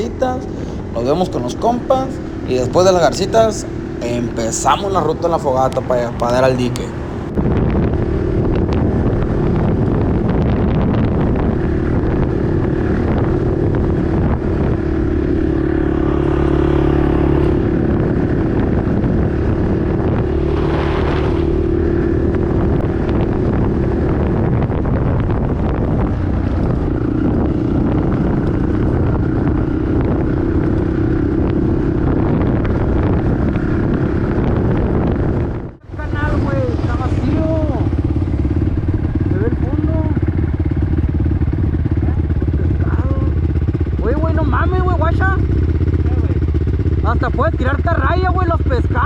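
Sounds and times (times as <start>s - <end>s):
atv engine running: 0.0s - 49.0s
wind buffeting microphone: 0.0s - 49.0s.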